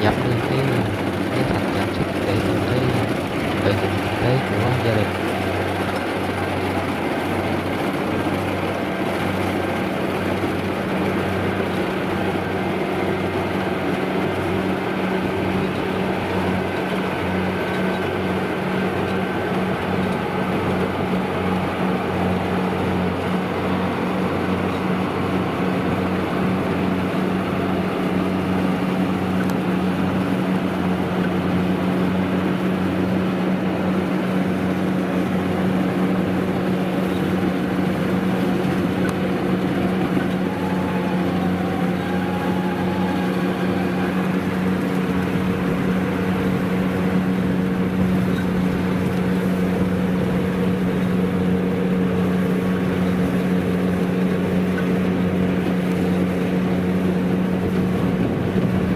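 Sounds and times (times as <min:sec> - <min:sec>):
diesel engine humming under load: 0:00.0 - 0:58.9
rattle of harvesting machinery: 0:00.0 - 0:58.9.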